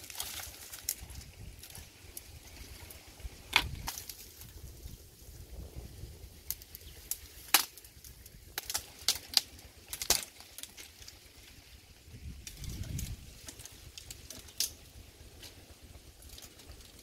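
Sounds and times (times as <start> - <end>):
dry branches crackling and snapping: 0.0 - 17.0.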